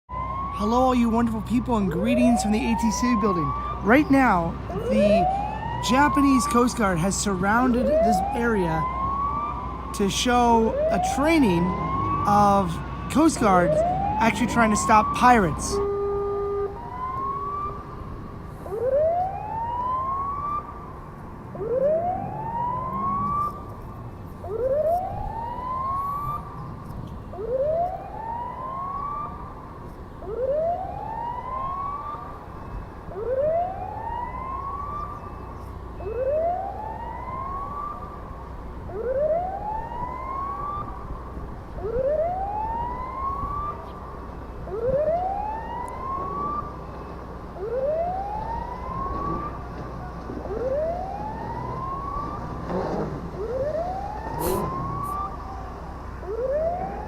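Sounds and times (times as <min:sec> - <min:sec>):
boat siren wailing: 0:00.1 - 0:57.0.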